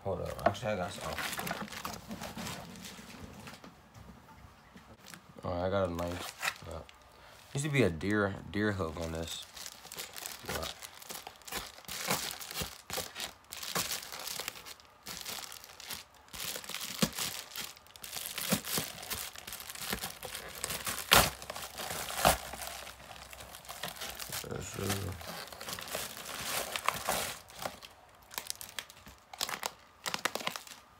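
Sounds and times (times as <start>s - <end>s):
plastic mailer crinkling and tearing: 0.2s - 3.1s, 5.0s - 7.0s, 8.7s - 30.9s.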